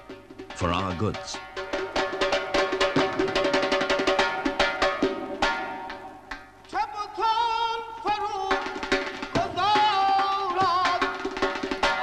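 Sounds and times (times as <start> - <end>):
hand drum rhythm: 0.0 - 7.2, 8.1 - 12.0.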